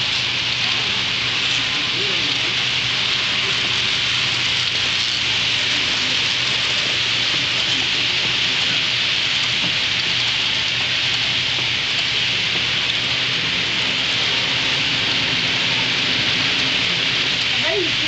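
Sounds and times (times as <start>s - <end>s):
model train wheels rushing on rail: 0.0s - 18.0s.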